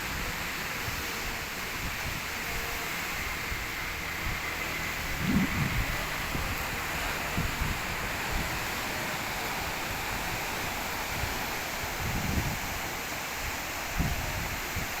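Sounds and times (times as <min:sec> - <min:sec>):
sea surf on a beach: 0:00.0 - 0:15.0
wind buffeting microphone: 0:00.8 - 0:15.0.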